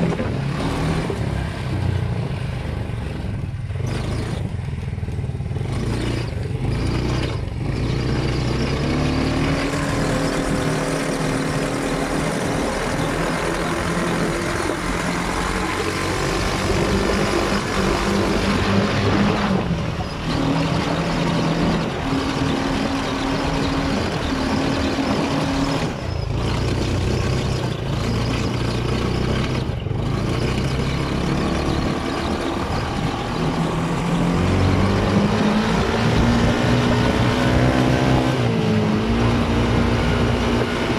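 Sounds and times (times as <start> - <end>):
buggy engine revving: 0.0 - 40.9.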